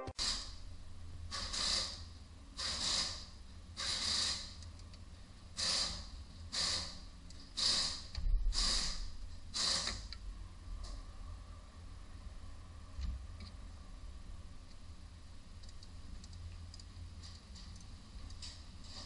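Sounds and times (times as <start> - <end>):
low steady rumble: 0.0 - 3.9, 4.5 - 19.0.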